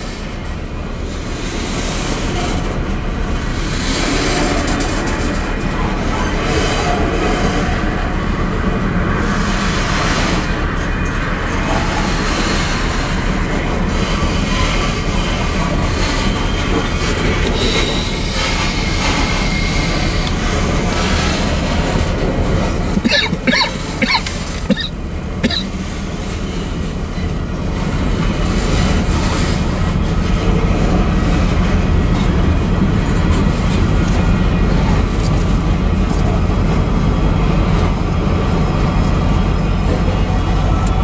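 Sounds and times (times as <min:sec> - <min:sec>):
train wheels clattering on rails: 0:00.0 - 0:41.0.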